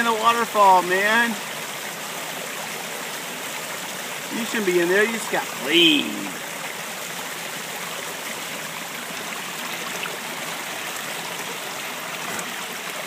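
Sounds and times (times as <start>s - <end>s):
waterfall pouring over rocks: 0.0s - 13.0s.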